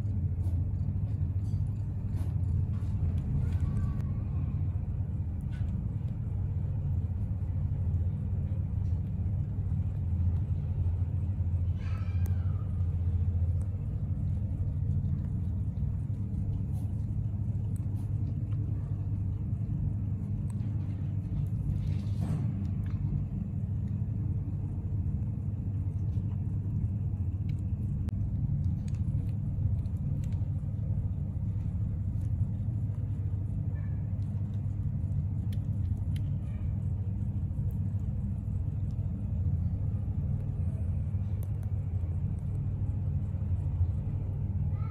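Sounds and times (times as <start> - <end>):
kittens suckling clicks: 5.2 - 44.6.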